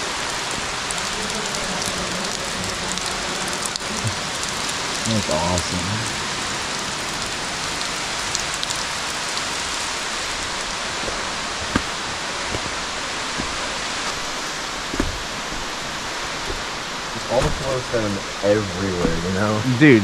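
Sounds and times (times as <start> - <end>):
water falling and splashing: 0.0 - 20.0.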